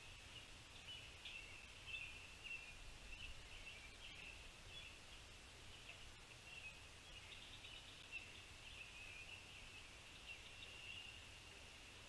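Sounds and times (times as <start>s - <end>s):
distant songbirds chirping: 0.0s - 12.0s.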